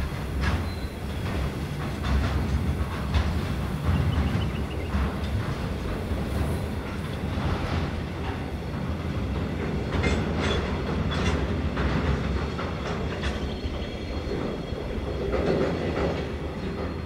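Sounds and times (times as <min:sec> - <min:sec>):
train wagons rumbling on track: 0:00.0 - 0:17.0
wheels clanking on rails: 0:00.0 - 0:17.0.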